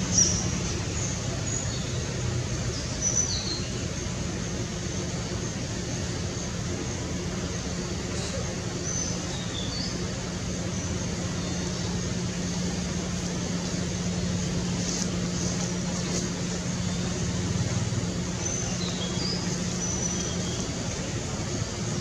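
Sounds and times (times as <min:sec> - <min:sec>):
low motor hum: 0:00.0 - 0:22.0
outdoor background noise: 0:00.0 - 0:22.0.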